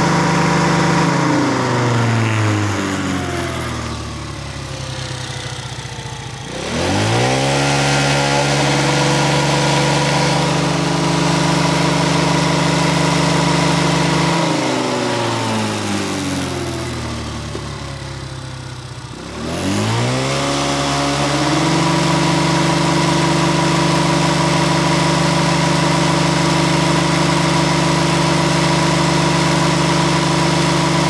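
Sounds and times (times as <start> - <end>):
scooter engine revving: 0.0 - 31.0.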